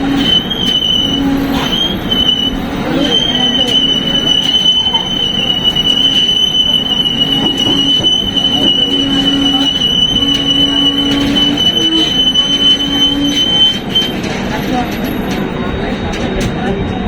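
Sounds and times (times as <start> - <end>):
train wheel squeal: 0.0 - 15.7
train wheels rumbling: 0.0 - 17.0.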